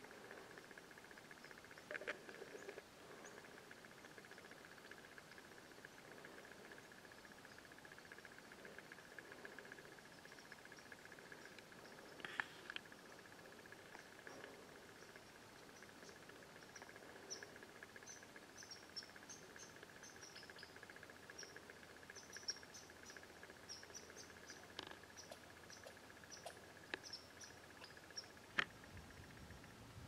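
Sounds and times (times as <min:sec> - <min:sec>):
crickets trilling: 0:00.0 - 0:29.9.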